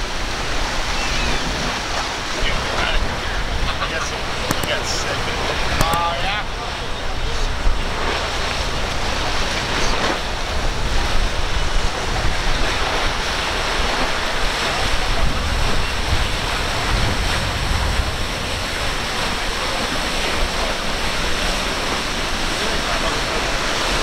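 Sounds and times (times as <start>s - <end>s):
water rushing and splashing: 0.0s - 24.0s
wind buffeting microphone: 0.0s - 24.0s.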